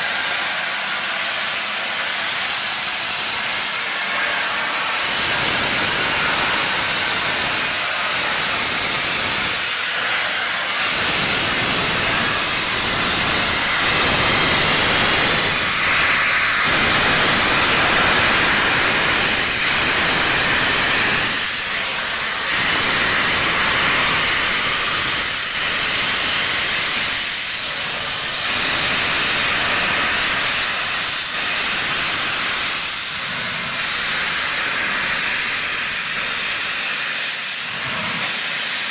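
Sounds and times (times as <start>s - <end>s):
steam locomotive hissing: 0.0s - 38.9s.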